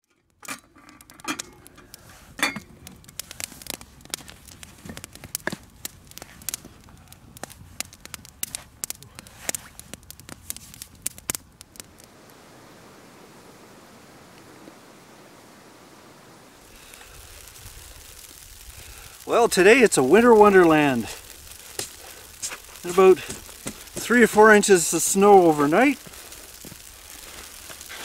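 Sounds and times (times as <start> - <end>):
campfire crackling and popping: 0.1 - 28.0
faint steady hiss: 0.3 - 28.0.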